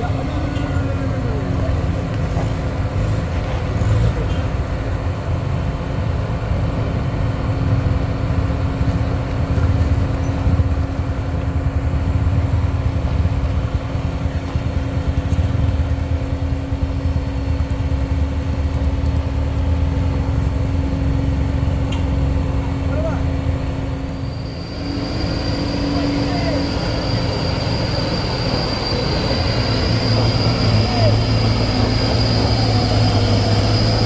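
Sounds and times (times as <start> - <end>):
car engines droning: 0.0 - 34.0
truck climbing slowly: 0.0 - 34.0.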